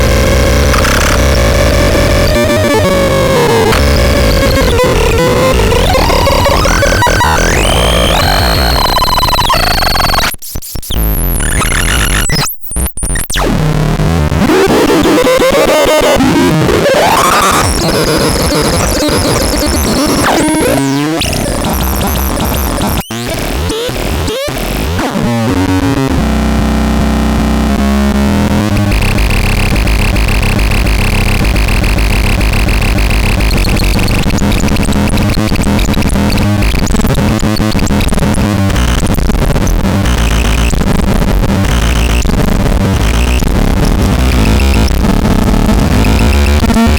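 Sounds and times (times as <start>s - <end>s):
harsh distorted electronic drone: 0.0s - 46.9s.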